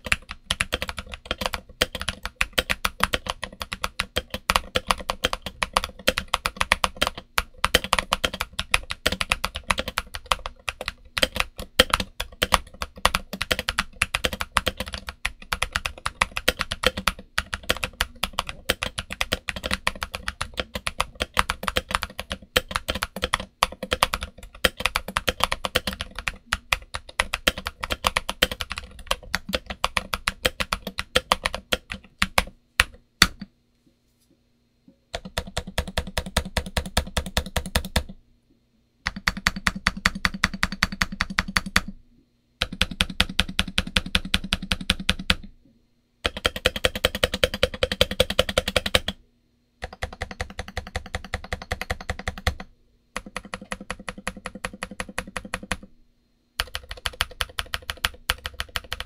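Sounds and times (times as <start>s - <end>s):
mechanical keyboard typing: 0.0s - 33.5s, 35.2s - 38.2s, 39.1s - 42.0s, 42.6s - 45.5s, 46.2s - 49.2s, 49.8s - 55.9s, 56.6s - 59.0s.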